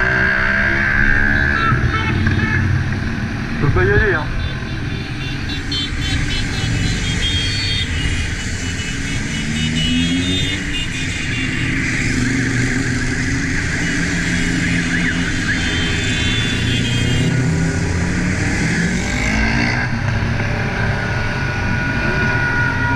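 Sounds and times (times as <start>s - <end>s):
wind and road noise: 0.0s - 22.9s.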